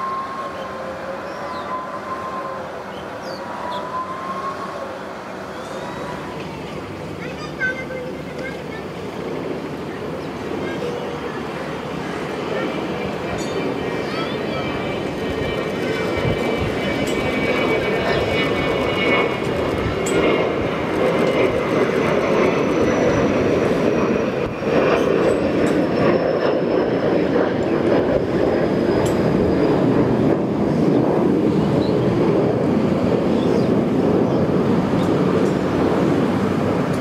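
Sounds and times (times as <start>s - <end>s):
high jet whine: 0.0s - 37.0s
jet engines roaring: 0.0s - 37.0s.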